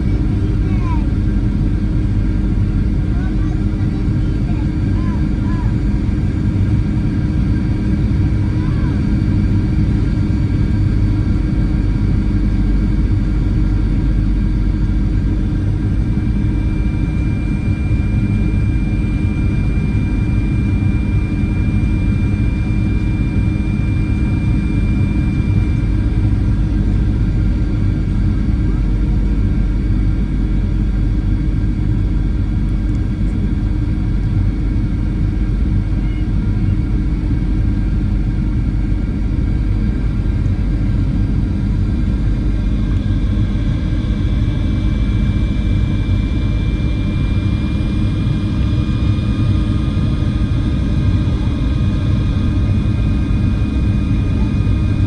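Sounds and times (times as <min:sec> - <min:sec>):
jet engines and airflow rumble: 0:00.0 - 0:55.0.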